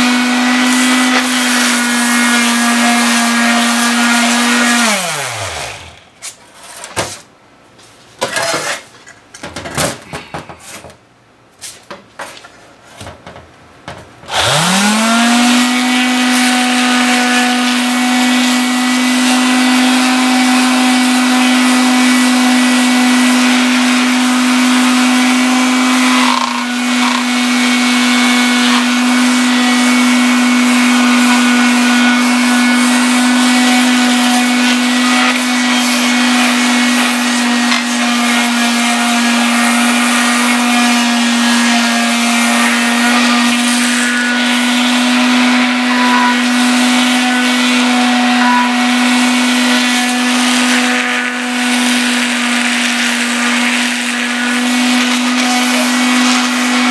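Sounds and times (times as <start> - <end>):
electric sander whining: 0.0 - 6.0, 14.3 - 56.9.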